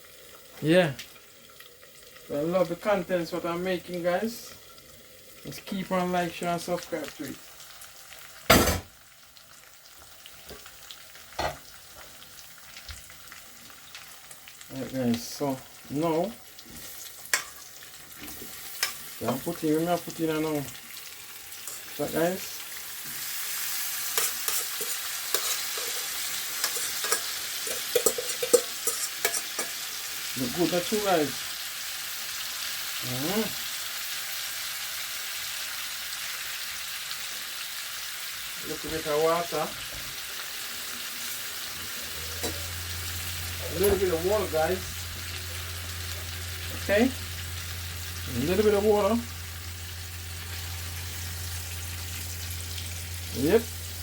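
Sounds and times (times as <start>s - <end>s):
food sizzling in a pot: 0.0s - 54.0s.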